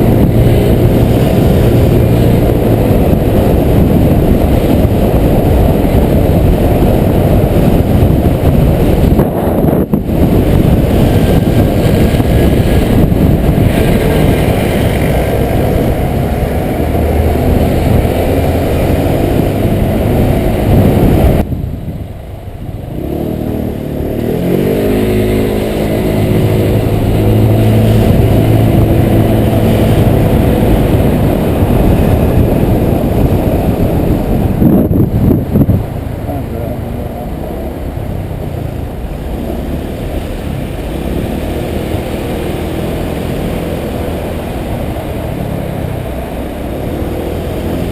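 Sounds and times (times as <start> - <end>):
scooter engine running: 0.0 - 47.9
wind rumble on microphone: 0.0 - 47.9.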